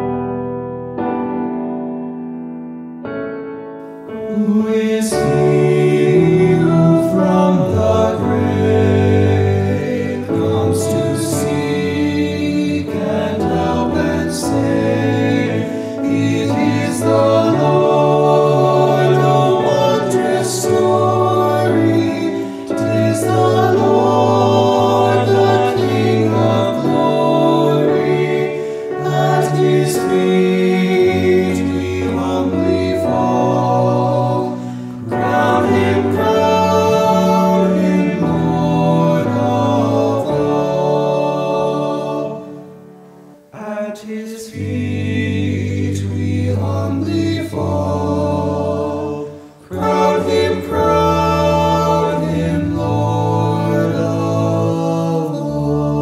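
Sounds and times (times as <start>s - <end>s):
male choir singing a hymn: 4.1s - 56.0s.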